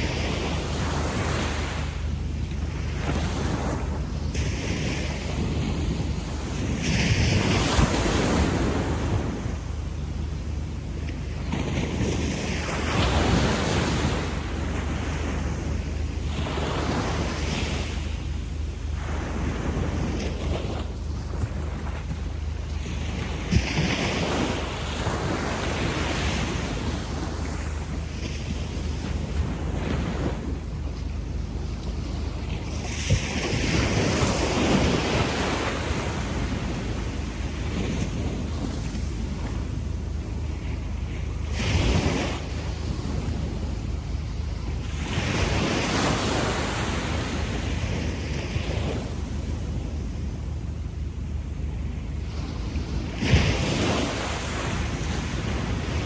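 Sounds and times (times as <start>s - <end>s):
small waves washing up a beach: 0.0s - 56.0s
wind rumble on microphone: 0.0s - 56.0s.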